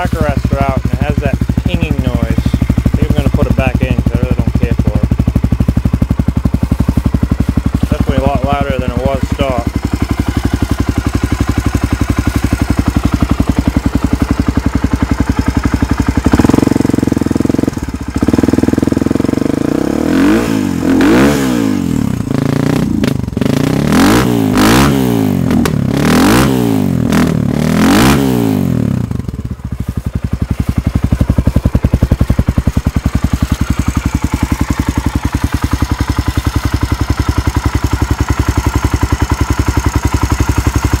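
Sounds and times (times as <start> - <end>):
motorcycle engine idling and revving: 0.0 - 41.0.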